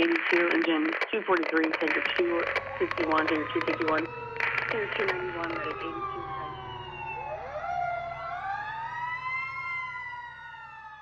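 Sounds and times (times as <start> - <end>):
fire truck siren wailing: 1.7 - 11.0.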